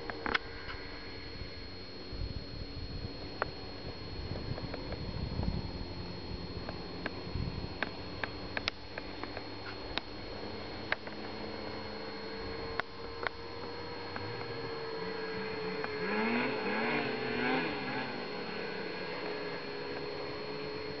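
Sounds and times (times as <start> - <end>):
distant snowmobile engine droning: 0.0 - 21.0.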